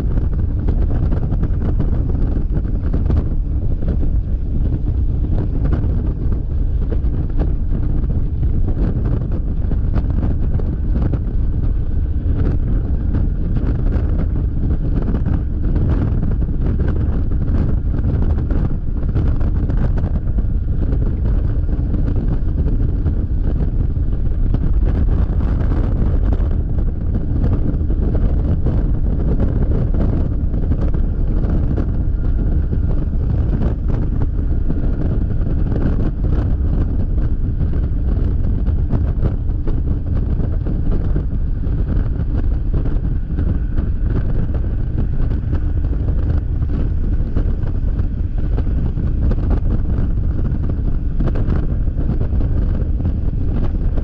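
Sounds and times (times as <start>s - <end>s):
road noise: 0.0s - 54.0s
wind roar on camera microphone: 0.0s - 54.0s.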